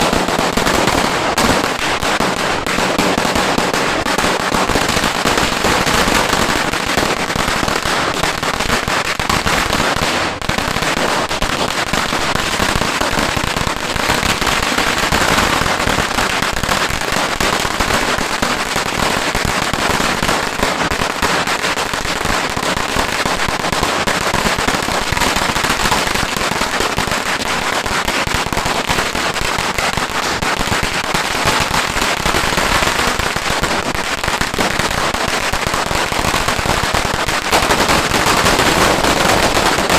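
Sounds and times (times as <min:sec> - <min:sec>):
firecracker string crackling: 0:00.0 - 0:39.9.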